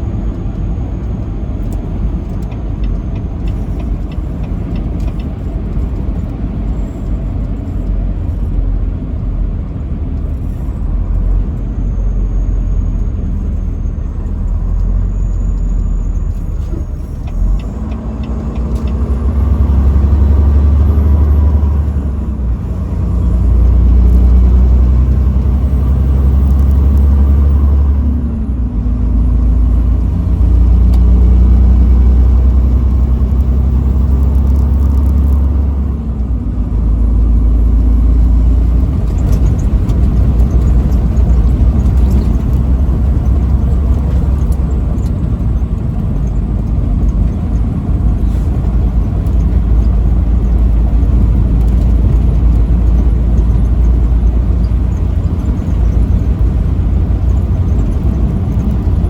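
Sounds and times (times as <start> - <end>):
road noise: 0.0 - 59.0
truck engine drone: 0.0 - 59.0.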